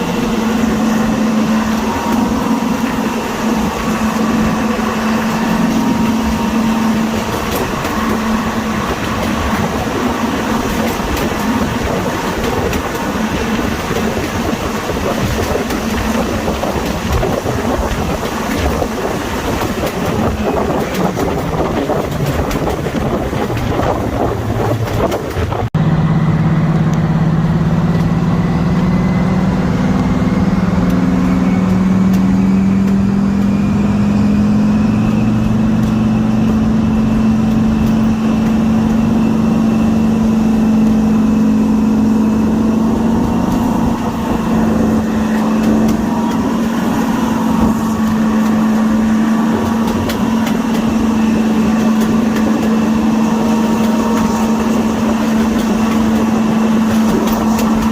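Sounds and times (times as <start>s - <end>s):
diesel engines working hard: 0.0s - 57.9s
high engine whine: 0.0s - 57.9s.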